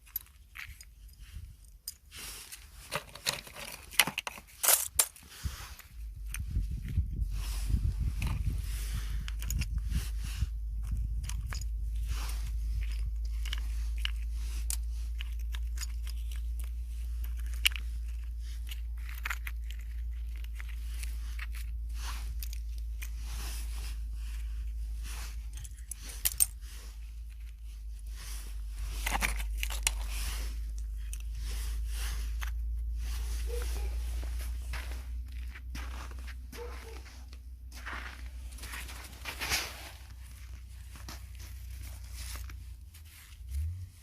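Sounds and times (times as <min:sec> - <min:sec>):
crunching and rustling: 0:00.0 - 0:44.0
low rumble: 0:05.3 - 0:44.0.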